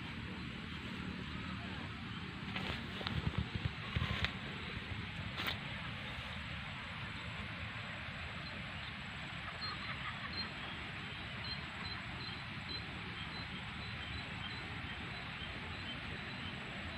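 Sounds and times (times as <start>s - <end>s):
steady outdoor noise: 0.0s - 16.9s.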